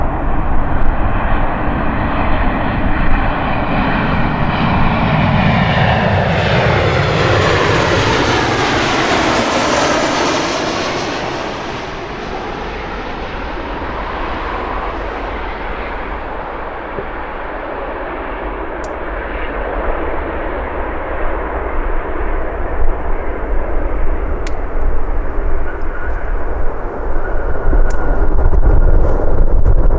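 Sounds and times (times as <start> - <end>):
jet airliner passing by: 0.0 - 29.9.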